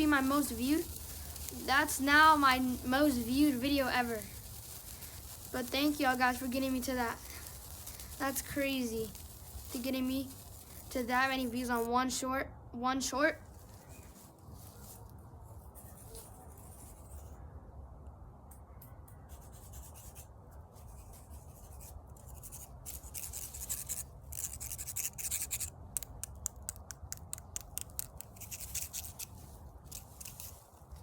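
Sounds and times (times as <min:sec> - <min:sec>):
scratchy rubbing on microphone: 0:00.0 - 0:12.0, 0:13.4 - 0:17.4, 0:19.4 - 0:25.7, 0:27.5 - 0:31.0.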